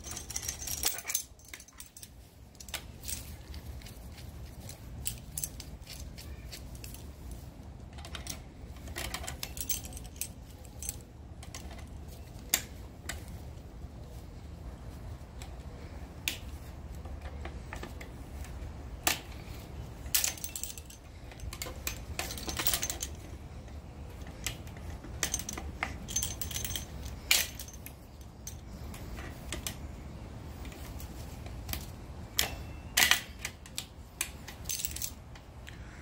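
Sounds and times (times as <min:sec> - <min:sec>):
metal clicks and clinks: 0:00.0 - 0:13.4, 0:17.0 - 0:29.9, 0:30.5 - 0:35.8.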